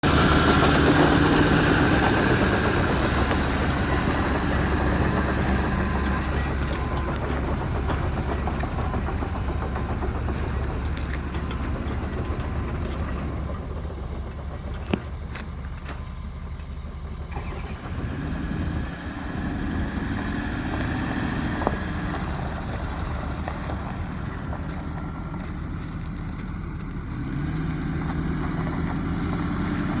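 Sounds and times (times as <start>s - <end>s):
pickup engine running and revving: 0.0s - 13.1s, 17.3s - 30.0s.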